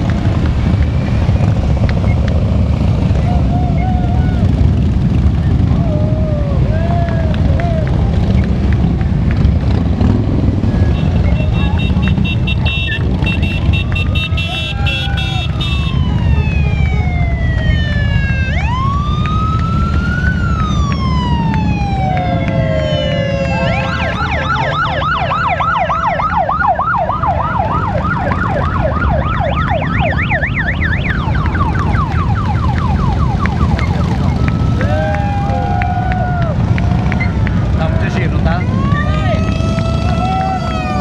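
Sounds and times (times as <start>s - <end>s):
emergency siren wailing: 0.0s - 41.0s
motorcycles riding past: 0.0s - 41.0s.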